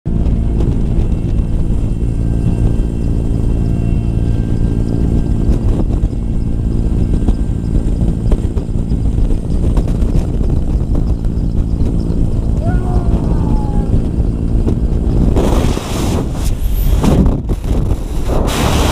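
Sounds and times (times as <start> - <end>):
helicopter engines and rotor: 0.1 - 18.2
wind buffeting microphone: 0.1 - 18.9.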